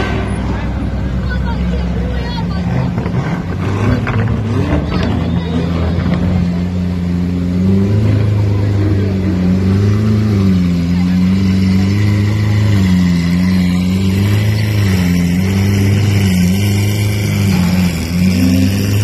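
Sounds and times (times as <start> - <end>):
sports car engine droning: 0.0 - 19.0.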